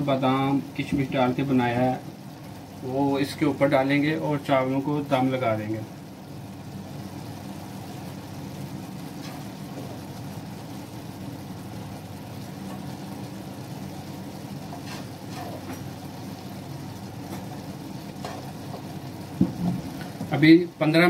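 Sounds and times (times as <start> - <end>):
low kitchen rumble: 0.0 - 21.0.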